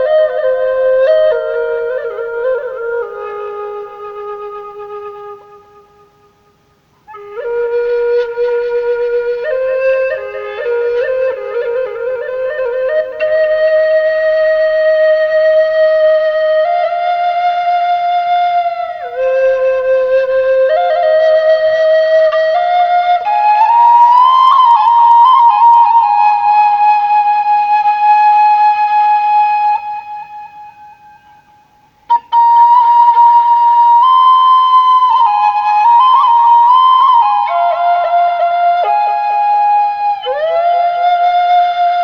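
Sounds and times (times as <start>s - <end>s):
flute playing slow melody: 0.0s - 42.0s.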